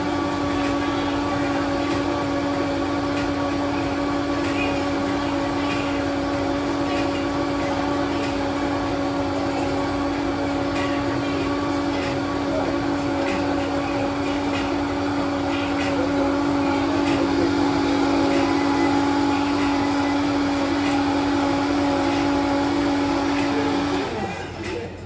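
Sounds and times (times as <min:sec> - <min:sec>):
mechanical hum: 0:00.0 - 0:25.0.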